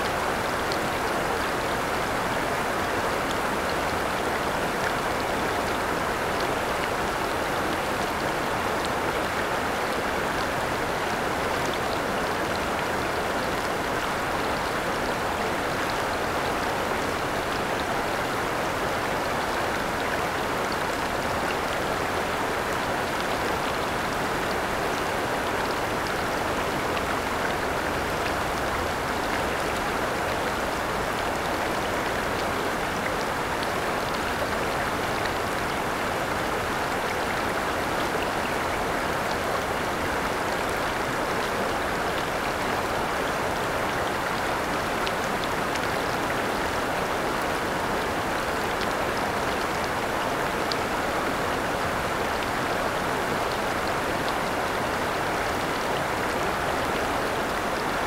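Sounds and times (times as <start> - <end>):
river rushing over a weir: 0.0 - 58.0.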